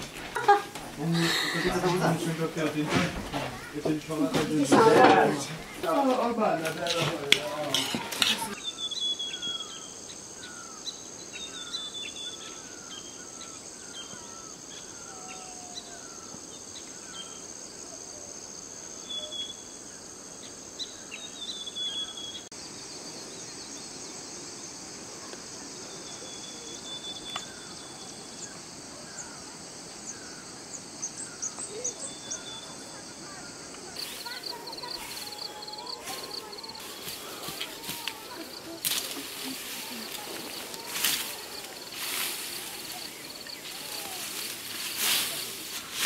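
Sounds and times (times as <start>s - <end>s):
insects droning: 0.0s - 46.0s
small birds chirping: 5.4s - 46.0s.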